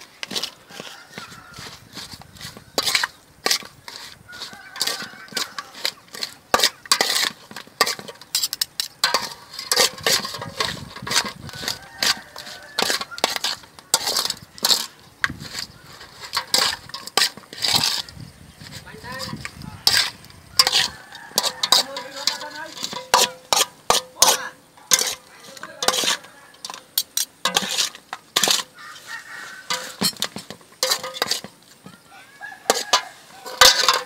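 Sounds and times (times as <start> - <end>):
kitchen utensils clattering: 2.8 - 28.8, 29.6 - 32.0, 32.7 - 34.0.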